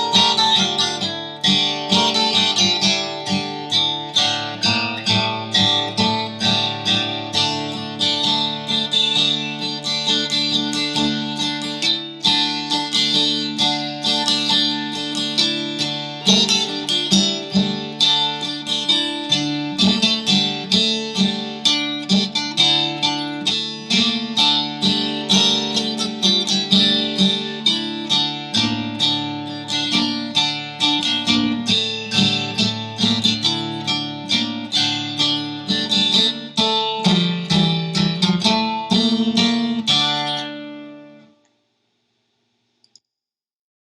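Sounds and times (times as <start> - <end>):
plucked guitar music: 0.0 - 41.4.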